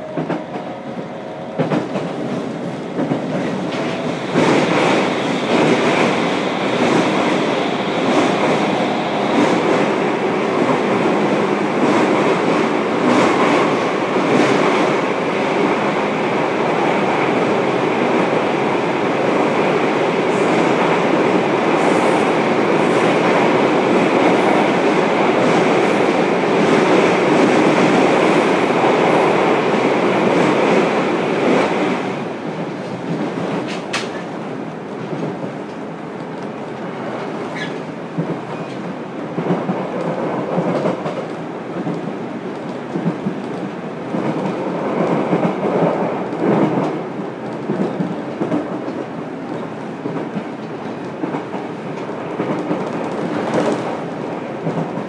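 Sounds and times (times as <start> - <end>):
train wheels and running gear: 0.0 - 55.0.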